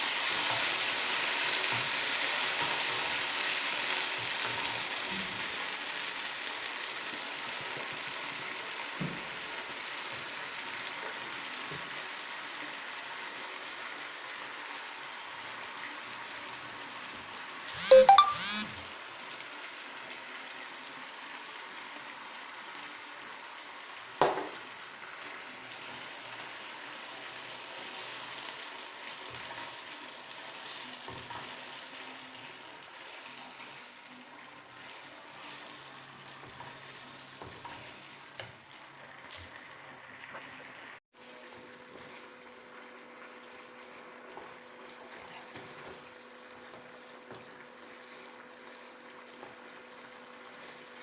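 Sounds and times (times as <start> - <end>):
food sizzling in a pan: 0.0 - 51.0.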